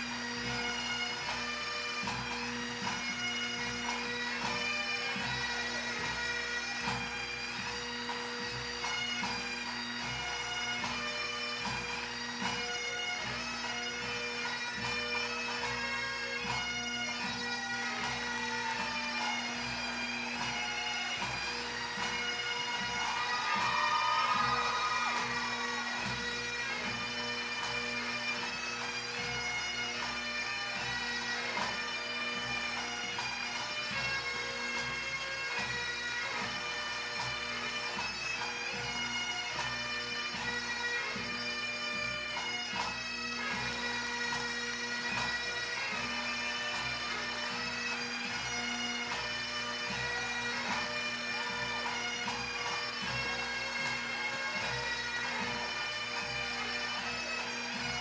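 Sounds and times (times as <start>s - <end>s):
bagpipe music: 0.0s - 58.0s.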